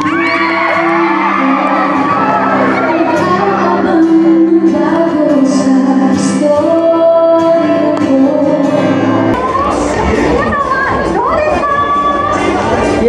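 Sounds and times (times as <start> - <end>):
live backing music: 0.0 - 13.0
woman singing into microphone: 0.0 - 13.0.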